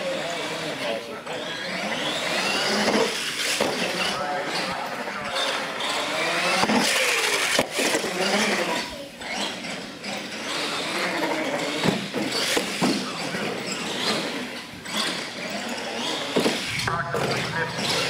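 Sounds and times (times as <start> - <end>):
toy truck motor revving: 0.0 - 16.8.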